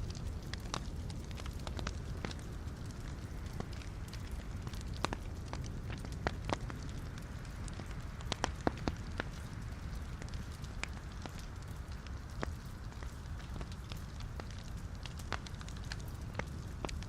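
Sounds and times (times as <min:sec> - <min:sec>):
logs crackling and popping: 0:00.0 - 0:17.0
low rumble of flame: 0:00.0 - 0:17.0.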